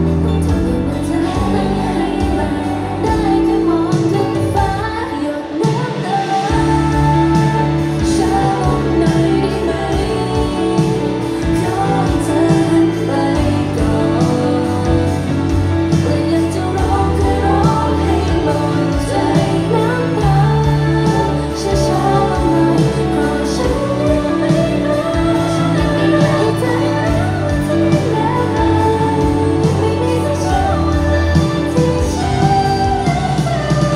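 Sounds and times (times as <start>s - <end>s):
backing track over pa: 0.0s - 33.9s
woman singing pop song: 0.0s - 33.9s.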